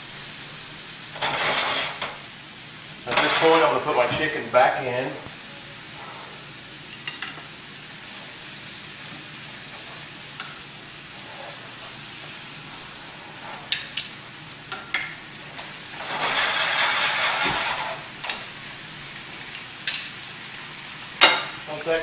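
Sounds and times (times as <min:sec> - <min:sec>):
chicken sizzling in a frying pan: 0:00.0 - 0:22.0.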